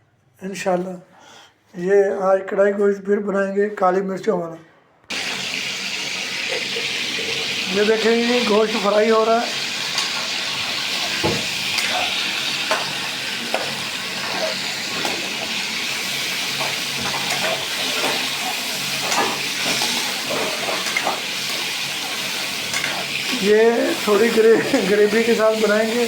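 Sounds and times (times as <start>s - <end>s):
meat sizzling in oil: 5.1s - 26.0s.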